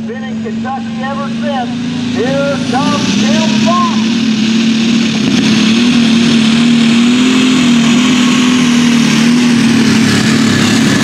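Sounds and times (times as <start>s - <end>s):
tractor engine running hard: 0.0s - 11.0s.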